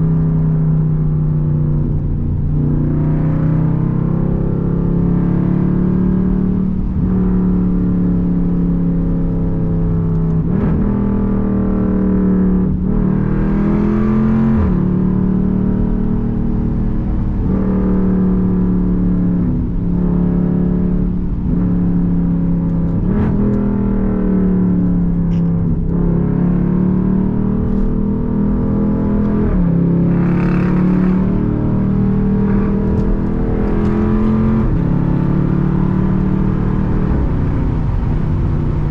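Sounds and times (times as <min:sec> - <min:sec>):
loud car exhaust droning: 0:00.0 - 0:38.9.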